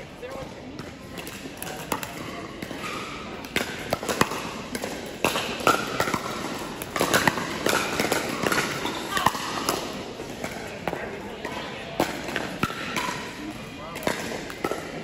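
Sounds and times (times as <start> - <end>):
ball bouncing: 0.4 - 13.2, 14.0 - 15.0.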